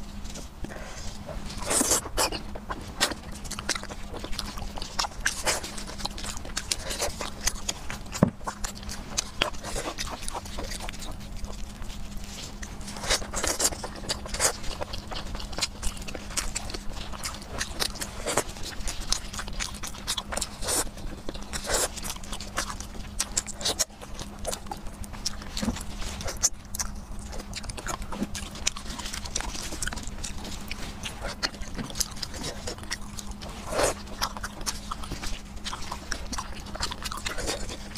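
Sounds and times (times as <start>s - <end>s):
faint low hum: 0.0s - 37.9s
wet chewing and lip-smacking: 0.0s - 37.9s.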